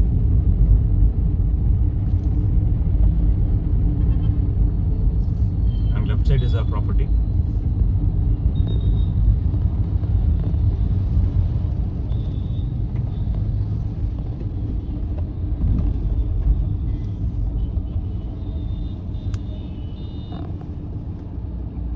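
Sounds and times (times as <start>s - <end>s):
car road and engine noise: 0.0s - 21.9s.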